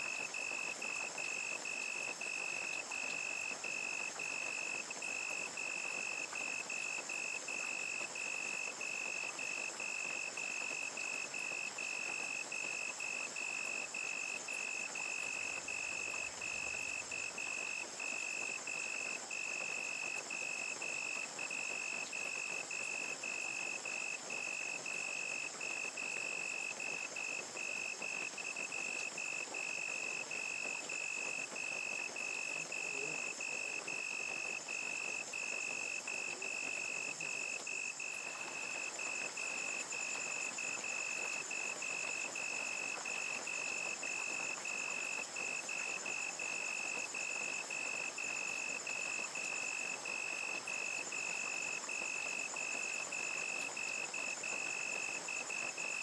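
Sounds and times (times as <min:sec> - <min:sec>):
crickets chirping: 0:00.0 - 0:56.0
rain falling: 0:00.0 - 0:56.0.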